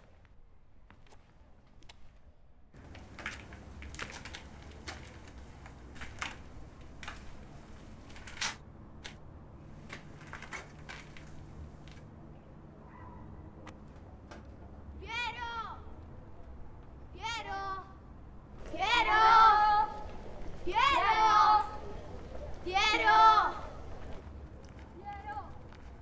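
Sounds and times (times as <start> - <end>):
low steady background hum: 0.0 - 26.0.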